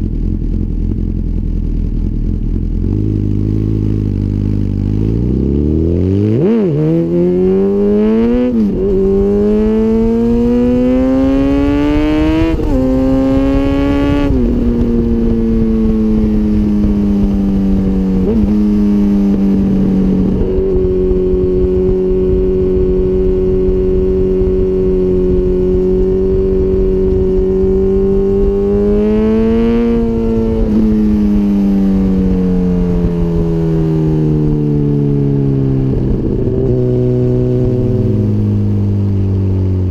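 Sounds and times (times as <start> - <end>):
motorcycle engine accelerating: 0.0 - 39.9
wind rush: 6.1 - 39.9.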